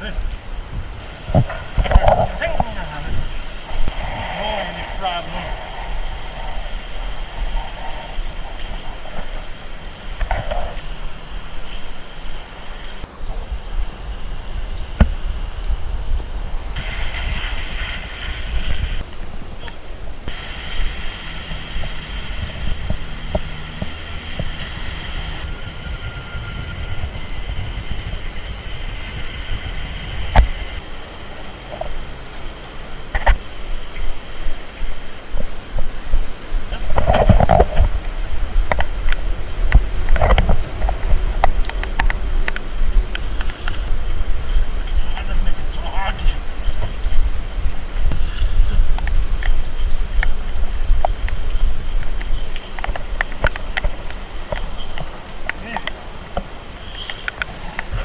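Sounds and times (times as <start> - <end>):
heavy rain: 0.0 - 58.0
wind buffeting microphone: 0.0 - 58.0.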